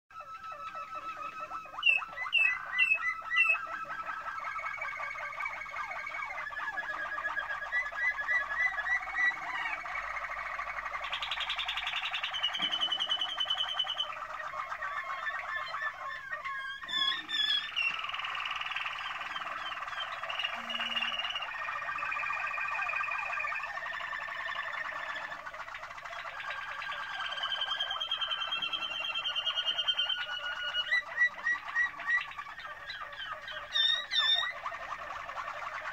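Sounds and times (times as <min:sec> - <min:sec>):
canary singing trills: 0:00.1 - 0:35.9.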